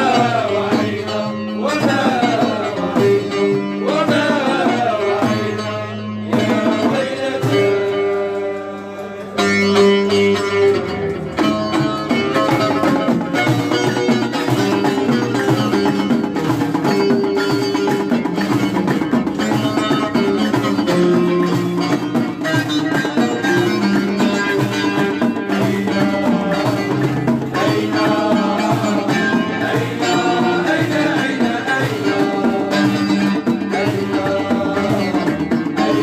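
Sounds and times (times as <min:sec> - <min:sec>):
drums and hand percussion: 0:00.0 - 0:36.0
plucked string instruments: 0:00.0 - 0:36.0.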